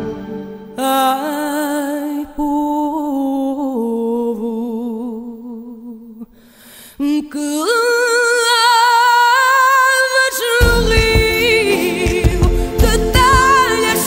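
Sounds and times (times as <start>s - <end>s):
woman singing with vibrato: 0.6s - 14.0s.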